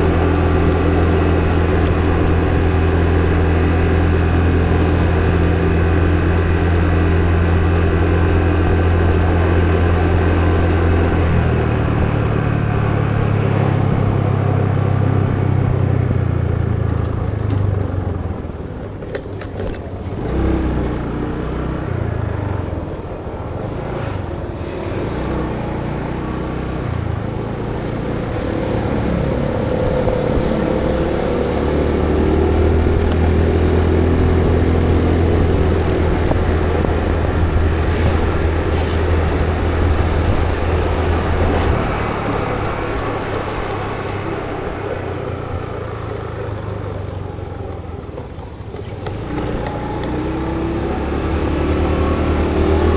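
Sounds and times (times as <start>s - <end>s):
tyre and traffic noise: 0.0s - 52.9s
vehicle engine running: 0.0s - 52.9s.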